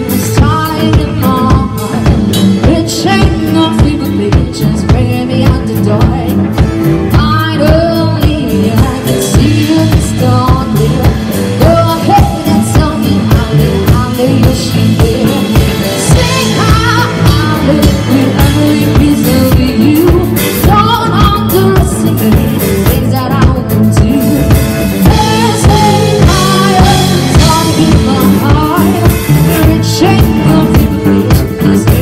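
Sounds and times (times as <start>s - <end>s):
drum kit beat: 0.0s - 32.0s
electric bass: 0.0s - 32.0s
electric guitar: 0.0s - 32.0s
woman singing lead: 0.0s - 32.0s.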